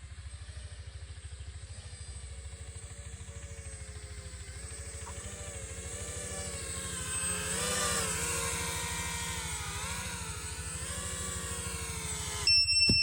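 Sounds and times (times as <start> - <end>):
drone motors whining: 1.8 - 13.0.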